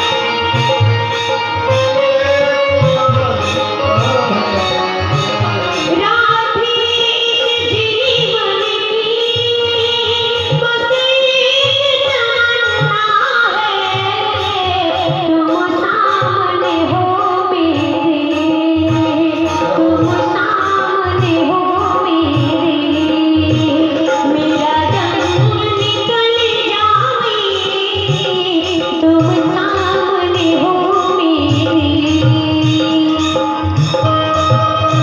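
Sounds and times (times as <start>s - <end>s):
tabla beat: 0.0s - 35.0s
woman singing: 5.9s - 35.0s.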